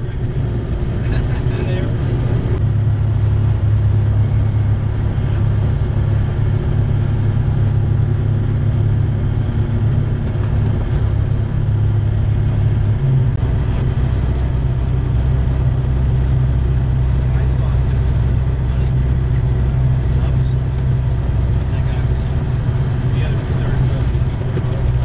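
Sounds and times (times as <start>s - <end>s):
light aircraft engine droning: 0.0s - 25.0s.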